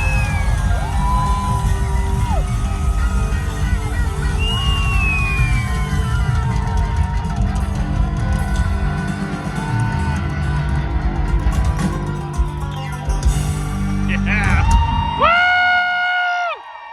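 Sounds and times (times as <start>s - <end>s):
live country band playing: 0.0s - 15.5s
faint crowd: 0.0s - 16.9s.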